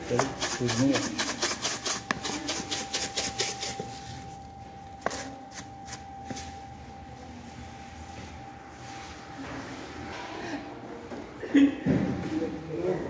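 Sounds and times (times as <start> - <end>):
high-pitched machine hum: 0.0 - 12.1.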